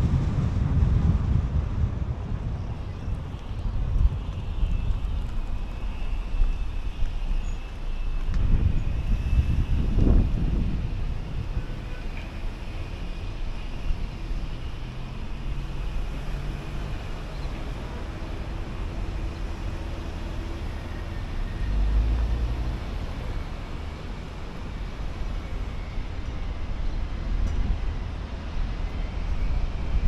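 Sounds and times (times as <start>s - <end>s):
low engine hum: 0.0s - 30.0s
tyre and road noise: 0.0s - 30.0s.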